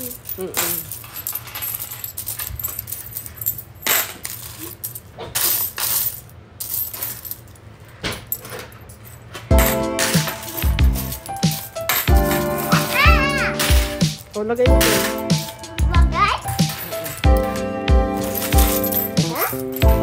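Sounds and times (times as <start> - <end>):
metal coins clinking: 0.0 - 20.0.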